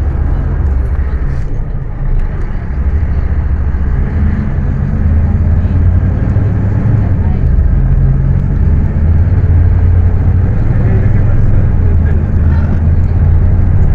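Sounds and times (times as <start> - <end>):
bus diesel engine rumbling: 0.0 - 13.9.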